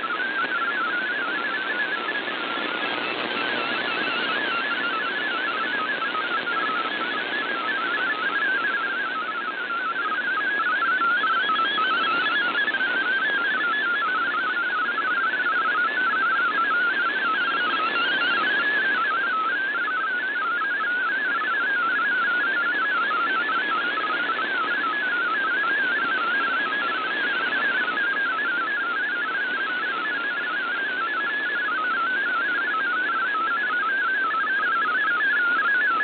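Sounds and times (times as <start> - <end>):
radio static hiss: 0.0 - 30.4.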